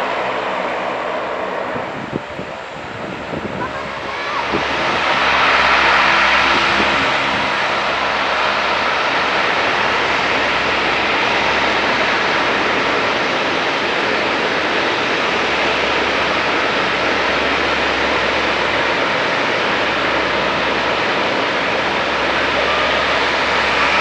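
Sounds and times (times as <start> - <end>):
turboprop aircraft engines running: 0.0 - 24.0.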